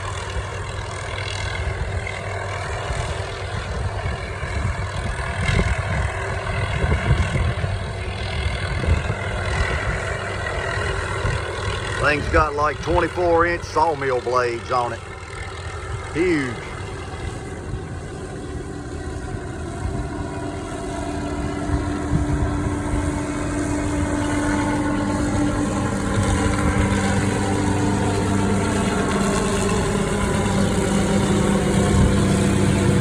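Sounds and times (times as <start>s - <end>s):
helicopter: 0.0s - 33.0s
steady low hum: 0.0s - 33.0s.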